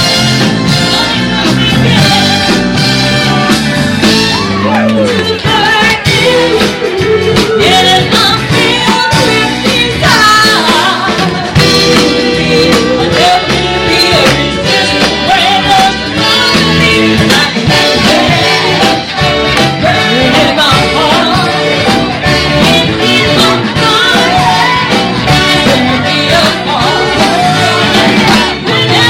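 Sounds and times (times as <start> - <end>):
live rock and roll band: 0.0 - 29.0
person singing: 4.6 - 29.0.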